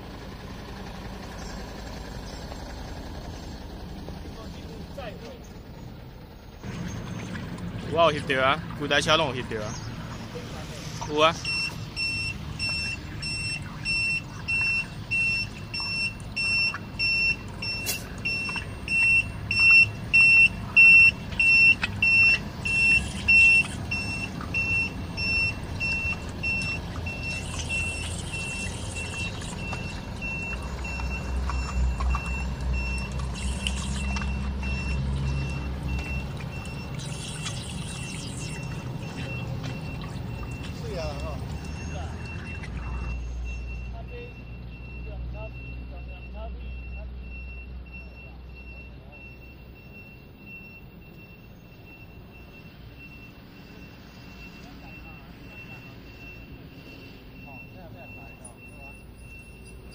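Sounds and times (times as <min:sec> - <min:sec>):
diesel engine running: 0:00.0 - 0:59.9
truck reversing alarm beeping: 0:00.0 - 0:59.9.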